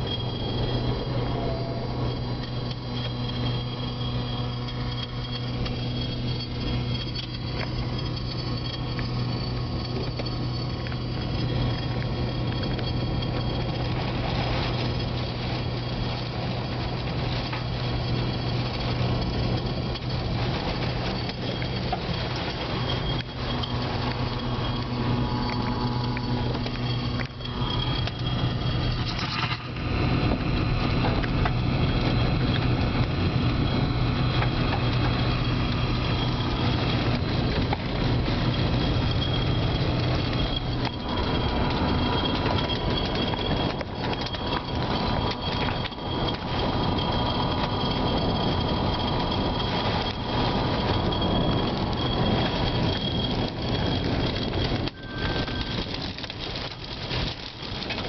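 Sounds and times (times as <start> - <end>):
rain: 0.0 - 58.0
storm wind: 0.0 - 58.0.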